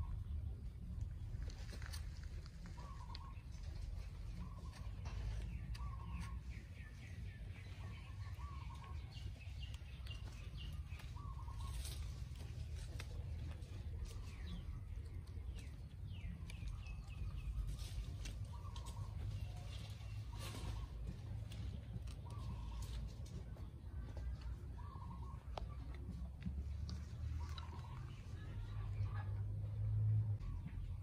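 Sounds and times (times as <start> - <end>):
steady low rumble: 0.0 - 31.0
birds calling: 1.4 - 29.4.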